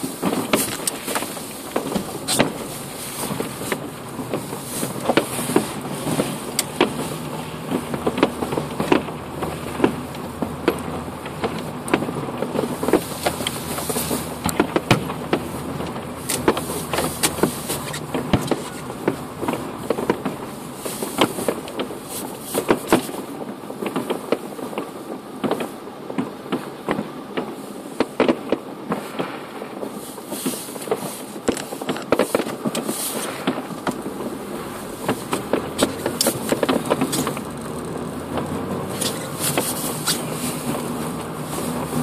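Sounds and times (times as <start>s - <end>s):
car engine and road noise: 0.0s - 42.0s
fireworks banging and popping: 0.0s - 42.0s.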